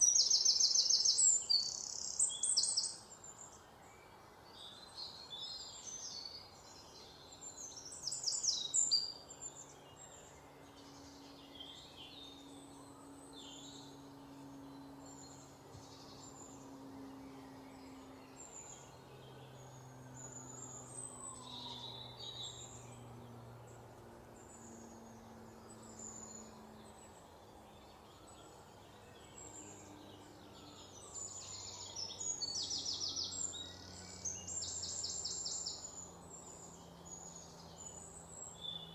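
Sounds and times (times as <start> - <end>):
birds chirping and singing: 0.0 - 38.9
steady background hiss: 0.0 - 38.9.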